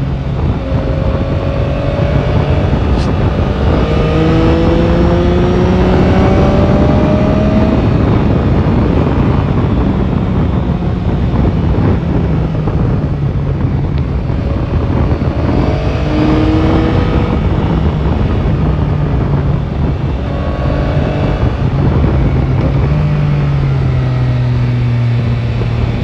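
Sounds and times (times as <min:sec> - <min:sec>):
motorcycle engine accelerating: 0:00.0 - 0:26.0
wind and road rush: 0:00.0 - 0:26.0.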